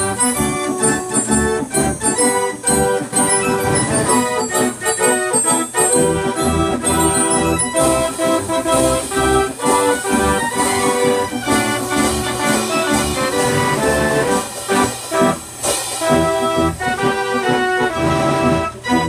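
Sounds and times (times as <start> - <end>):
band organ playing a tune: 0.0 - 19.0.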